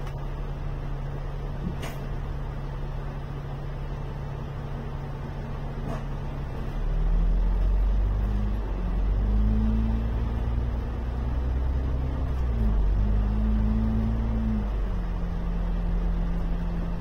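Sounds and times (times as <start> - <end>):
bus diesel engine accelerating: 0.0 - 17.0.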